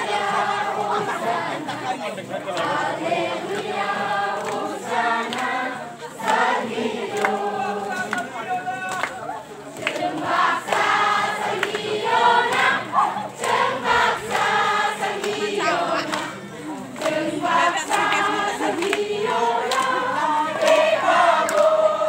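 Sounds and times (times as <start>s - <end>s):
crowd hubbub: 0.0s - 22.0s
voices singing in unison: 0.0s - 22.0s.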